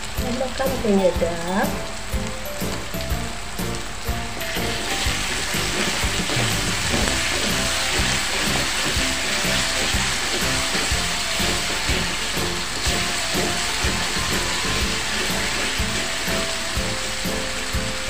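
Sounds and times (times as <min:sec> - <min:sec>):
background music: 0:00.0 - 0:18.0
paste sizzling in a wok: 0:00.0 - 0:18.0.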